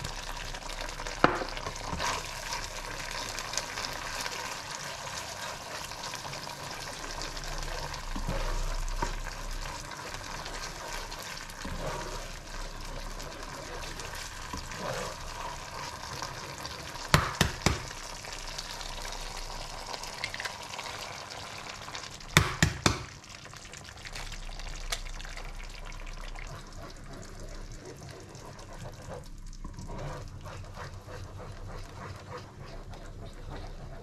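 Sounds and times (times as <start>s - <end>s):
spatula stirring: 0.0s - 21.1s, 23.8s - 34.0s
sauce sizzling in a frying pan: 0.0s - 34.0s.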